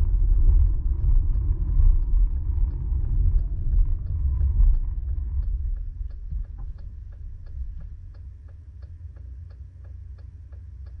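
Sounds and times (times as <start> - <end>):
engine and road rumble: 0.0 - 11.0
turn signal clicking: 0.3 - 11.0.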